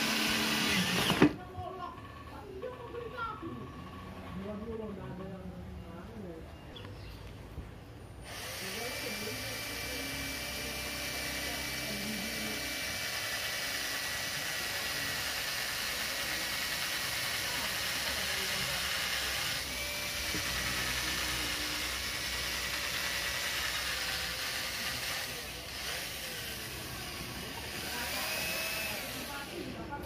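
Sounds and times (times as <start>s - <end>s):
electric drill running: 0.0s - 3.2s, 8.2s - 30.0s.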